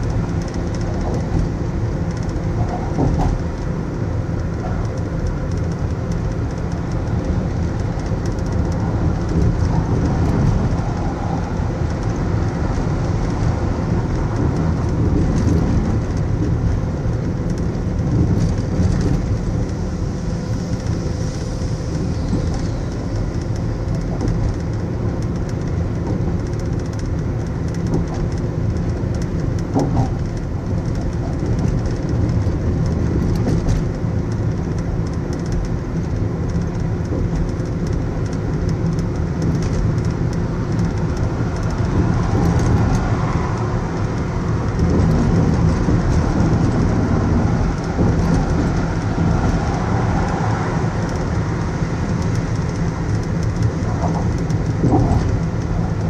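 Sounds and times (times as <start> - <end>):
passing traffic: 0.0 - 56.0
tyre and road noise rumble: 0.0 - 56.0.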